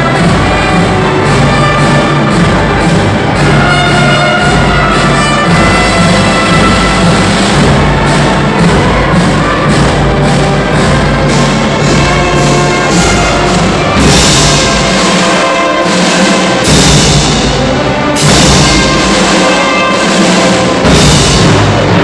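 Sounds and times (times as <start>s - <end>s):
orchestra strings playing loudly: 0.0s - 22.0s.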